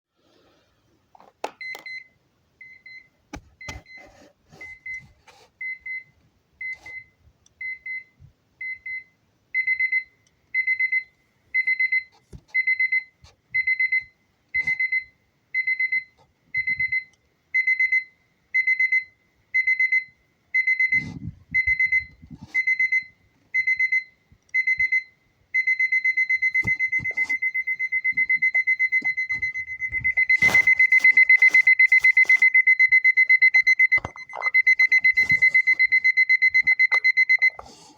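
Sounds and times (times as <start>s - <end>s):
alarm clock beeping: 5.6s - 37.6s.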